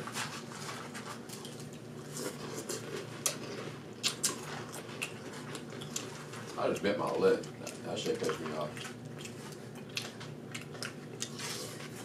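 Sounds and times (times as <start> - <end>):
mouths chewing: 1.4 - 12.0.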